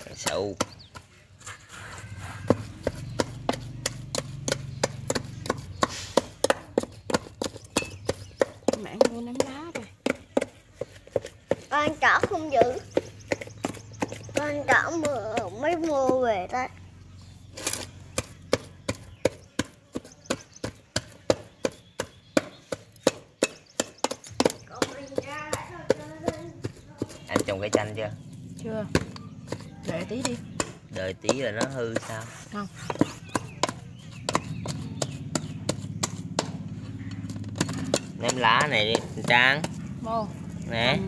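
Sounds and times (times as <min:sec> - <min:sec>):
wooden pestle pounding in a metal pot: 0:00.0 - 0:01.1, 0:02.1 - 0:16.6, 0:17.8 - 0:41.0.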